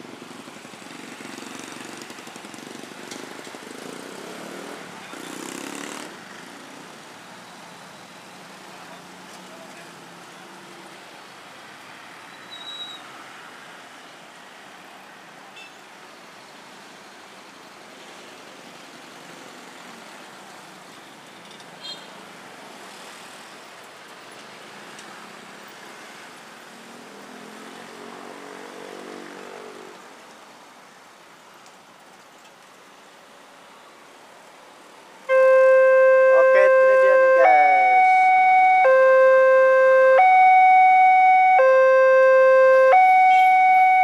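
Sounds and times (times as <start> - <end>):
road traffic: 0.0 - 44.0.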